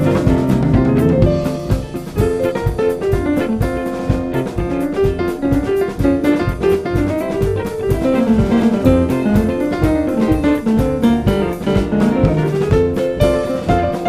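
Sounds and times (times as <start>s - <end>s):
drum kit beat: 0.0s - 14.0s
guitar: 0.0s - 14.0s.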